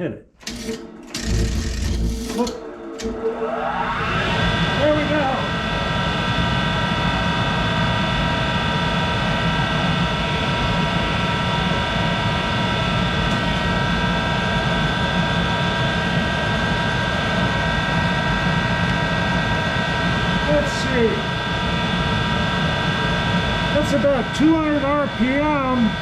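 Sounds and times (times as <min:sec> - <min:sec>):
lathe motor whine and hum: 0:00.4 - 0:26.0.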